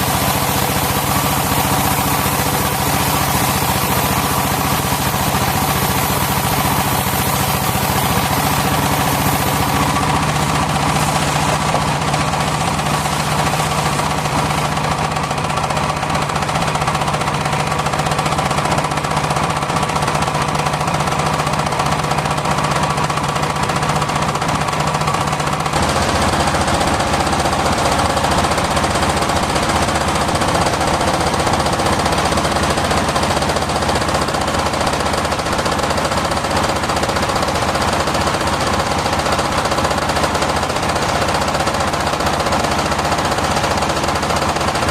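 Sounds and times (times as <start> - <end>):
sawmill running with pulsing knock: 0.0 - 44.9.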